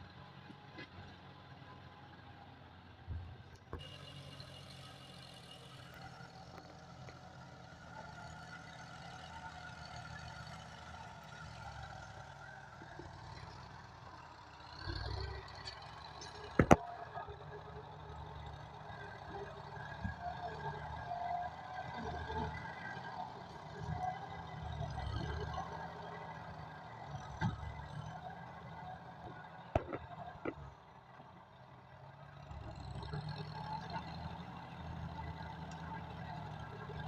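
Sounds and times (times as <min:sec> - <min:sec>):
distant tractor engine running: 0:00.0 - 0:37.0.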